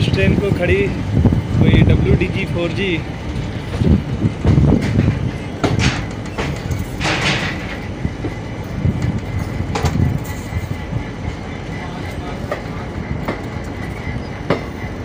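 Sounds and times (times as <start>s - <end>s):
train coaches rumbling: 0.0s - 15.0s
wheels clacking over rail joints: 0.0s - 15.0s.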